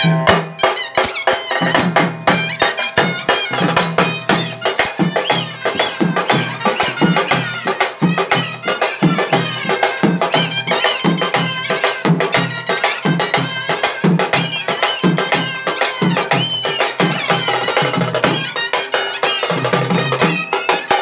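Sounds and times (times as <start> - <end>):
wind instrument melody: 0.0 - 21.0
barrel drums beaten with sticks: 1.5 - 18.6.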